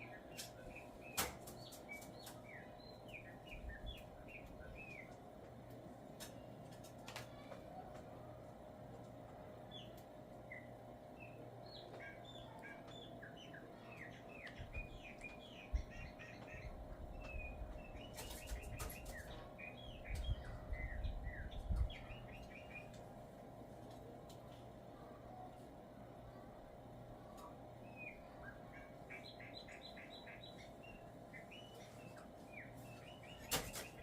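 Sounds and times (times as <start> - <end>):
songbird singing: 0.0 - 7.9, 9.5 - 23.2, 26.2 - 34.0
low electrical hum: 0.0 - 34.0.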